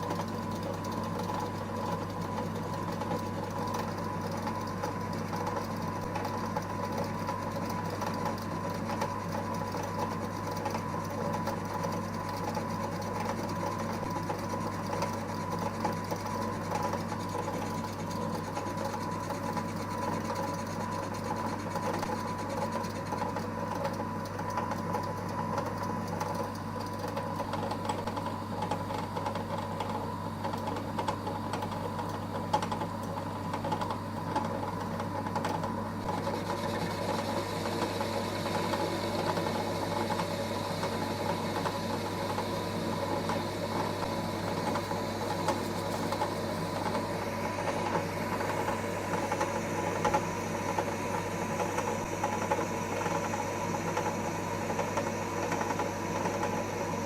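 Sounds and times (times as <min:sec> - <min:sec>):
lathe motor humming and whining: 0:00.0 - 0:57.0.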